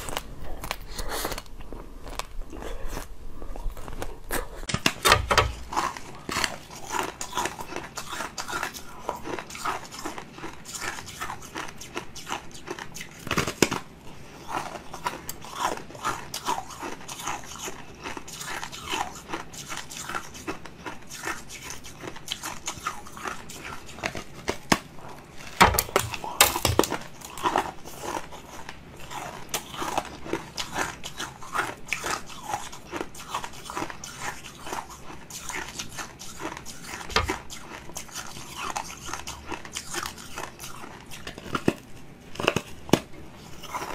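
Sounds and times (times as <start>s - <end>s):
person crunching brittle food: 0.0s - 43.9s.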